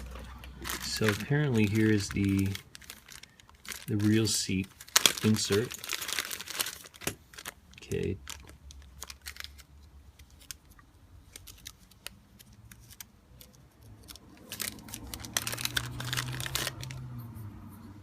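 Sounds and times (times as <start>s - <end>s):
packaging clicks and rustles: 0.0s - 17.1s.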